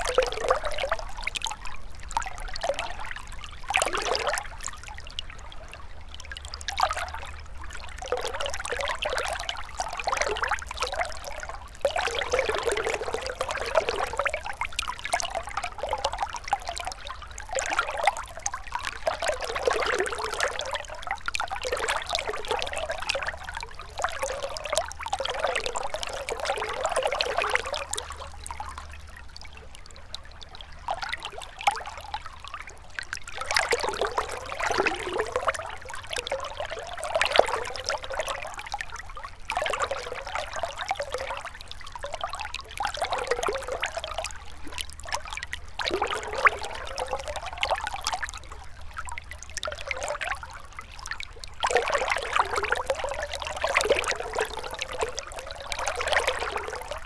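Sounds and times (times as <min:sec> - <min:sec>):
river water trickling and splashing: 0:00.0 - 0:57.0.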